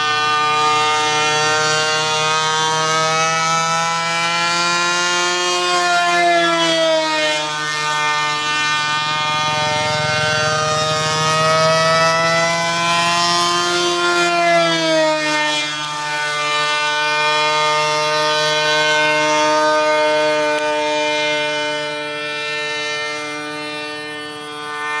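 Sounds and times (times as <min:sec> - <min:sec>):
model airplane engine whine: 0:00.0 - 0:25.0.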